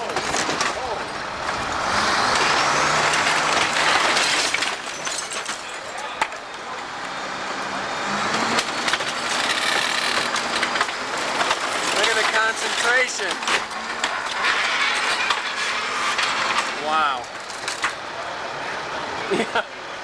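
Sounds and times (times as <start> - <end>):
wood and debris cracking and crashing: 0.0 - 6.7, 8.3 - 18.1
heavy machine engine running: 0.0 - 20.0.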